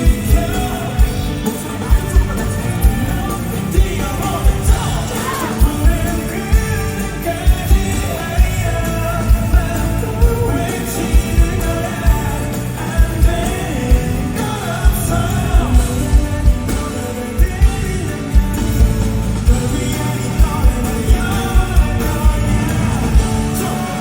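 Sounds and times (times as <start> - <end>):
man singing: 0.0 - 24.0
pop-rock band playing loudly: 0.0 - 24.0.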